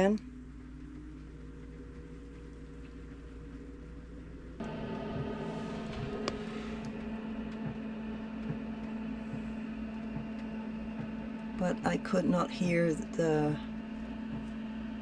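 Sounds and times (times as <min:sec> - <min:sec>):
heater blower fan humming: 0:00.0 - 0:15.0.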